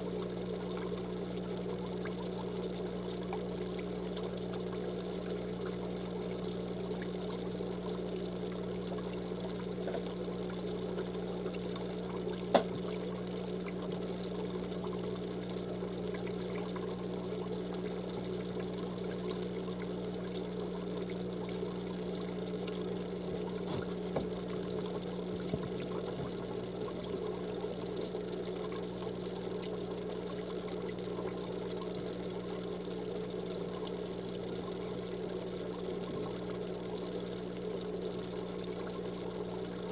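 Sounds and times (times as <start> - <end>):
low electric hum: 0.0 - 39.9
water trickling into tank: 0.0 - 39.9.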